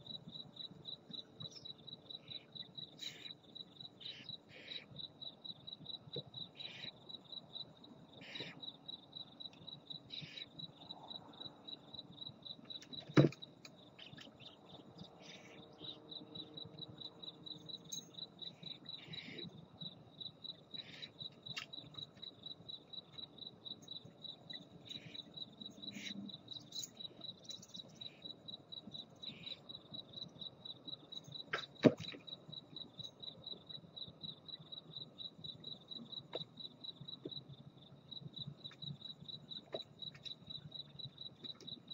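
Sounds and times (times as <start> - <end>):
cricket chirping: 0.0 - 41.9
high insect chirps: 0.0 - 41.9.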